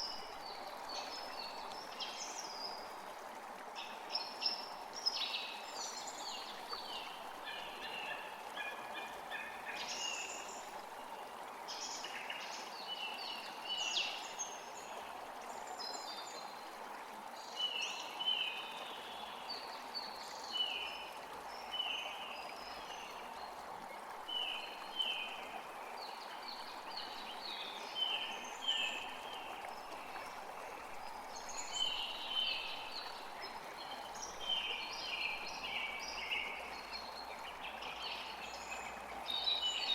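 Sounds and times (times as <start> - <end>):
forest creek rushing: 0.0 - 39.9.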